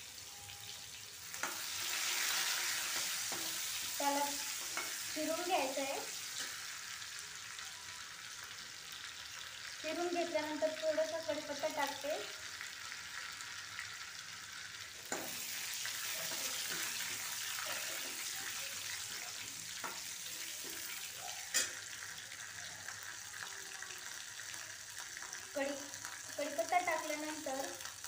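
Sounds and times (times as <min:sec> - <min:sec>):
food sizzling in hot oil: 0:00.0 - 0:28.0.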